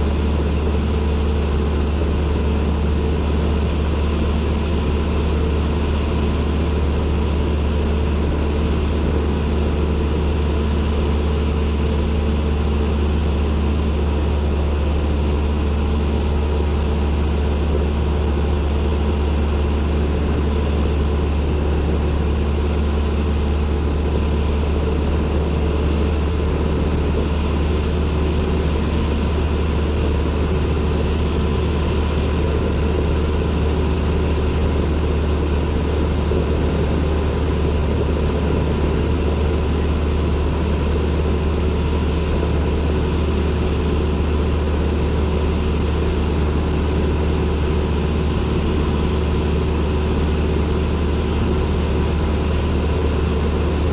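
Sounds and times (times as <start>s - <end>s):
airplane engine and propeller drone: 0.0s - 53.9s.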